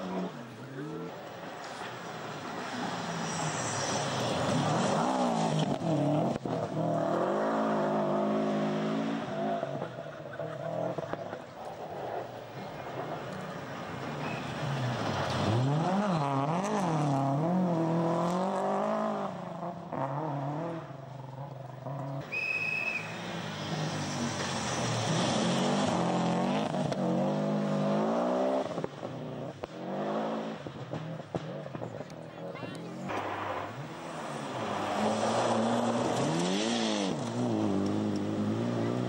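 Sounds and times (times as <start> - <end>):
rally car engines revving: 0.0 - 39.0.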